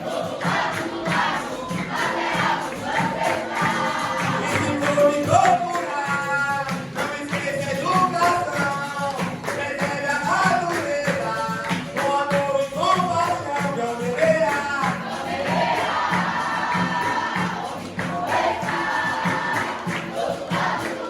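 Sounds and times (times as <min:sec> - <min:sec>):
hand percussion: 0:00.0 - 0:21.0
voices singing together: 0:00.0 - 0:21.0.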